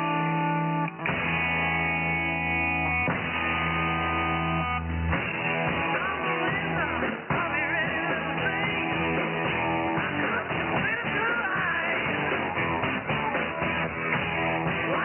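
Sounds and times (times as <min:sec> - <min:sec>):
rock music over shortwave radio: 0:00.0 - 0:15.0.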